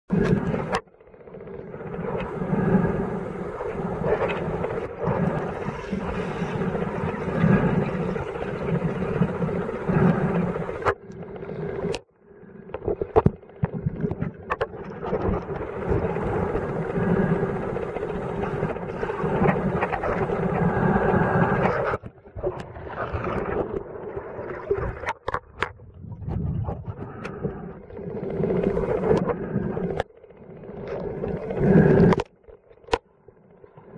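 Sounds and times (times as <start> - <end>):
muffled underwater water bubbling: 0.1 - 0.8, 1.7 - 12.0, 15.1 - 30.0, 30.8 - 32.3.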